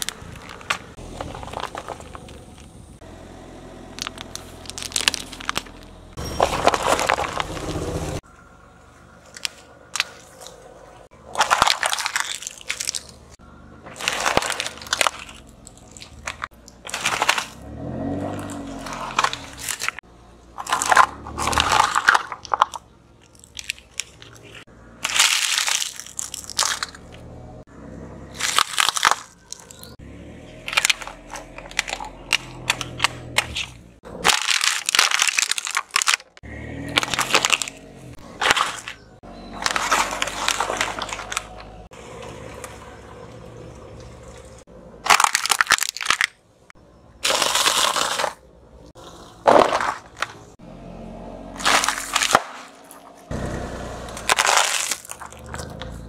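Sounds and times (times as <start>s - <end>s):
car tyre crushing objects: 0.0s - 56.0s.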